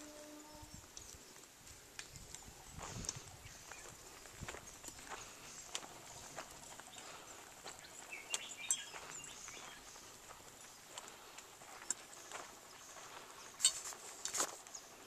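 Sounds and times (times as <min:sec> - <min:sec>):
footsteps crunching on dirt path: 0:00.8 - 0:15.0.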